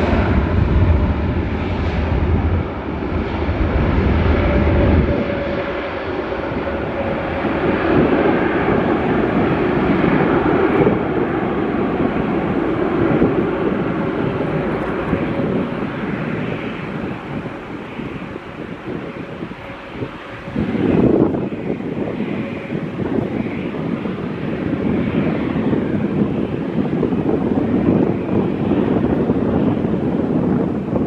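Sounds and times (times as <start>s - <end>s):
faint engine whine: 0.0s - 31.0s
jet engines rushing: 0.0s - 31.0s.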